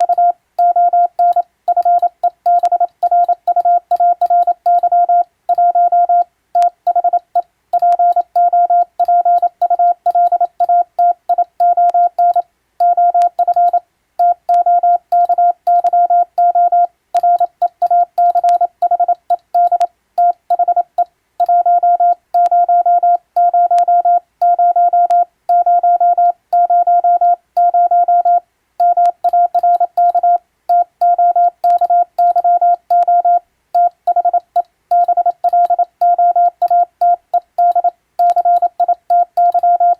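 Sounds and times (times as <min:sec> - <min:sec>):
morse code tone: 0:00.0 - 0:07.2, 0:07.8 - 0:39.9.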